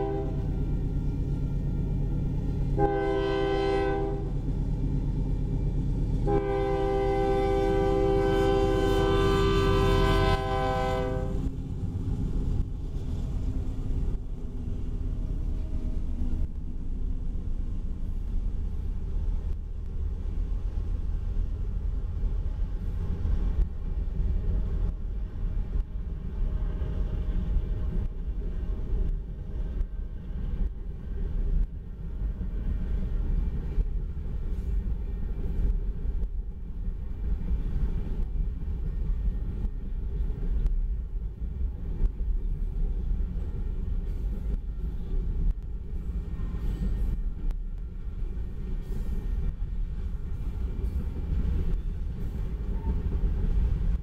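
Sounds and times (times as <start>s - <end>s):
diesel locomotive engine droning: 0.0s - 54.0s
steel wheels rumbling on rail: 0.0s - 54.0s.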